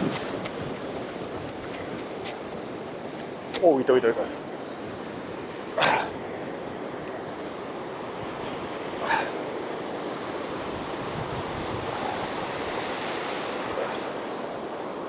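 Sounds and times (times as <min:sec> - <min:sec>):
surf breaking on sand beach: 0:00.0 - 0:15.0.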